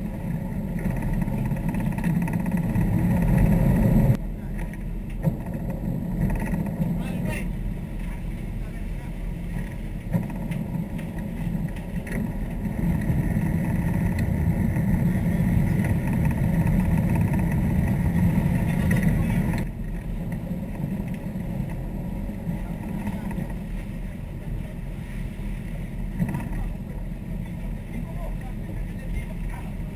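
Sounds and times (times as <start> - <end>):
boat engines running: 0.0 - 29.9
water rushing around hull: 0.0 - 29.9.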